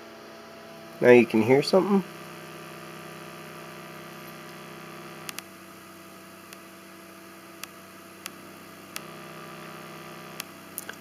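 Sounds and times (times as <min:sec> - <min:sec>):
tweeter buzzing hum: 0:00.0 - 0:11.0.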